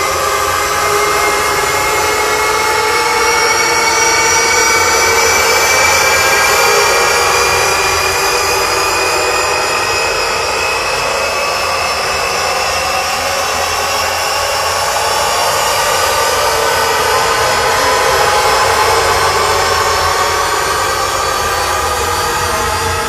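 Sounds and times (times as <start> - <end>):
loud electronic drone: 0.0 - 23.0.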